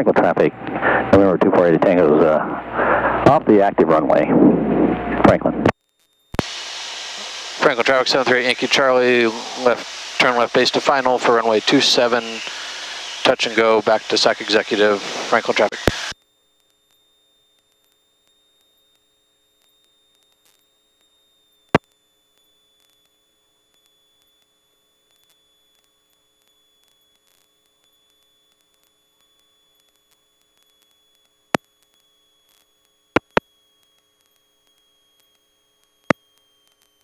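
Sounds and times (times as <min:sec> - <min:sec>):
electronic whine and hum: 0:00.0 - 0:37.0.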